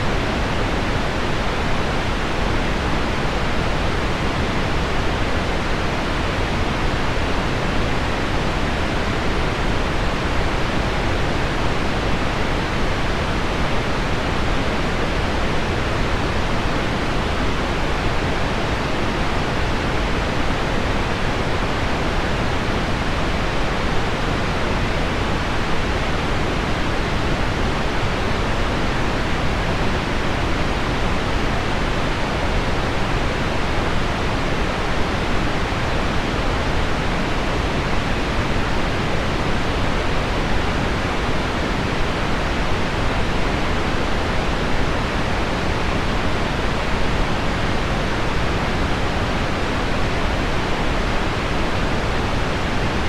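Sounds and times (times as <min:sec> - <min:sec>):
pink noise hiss: 0:00.0 - 0:53.0.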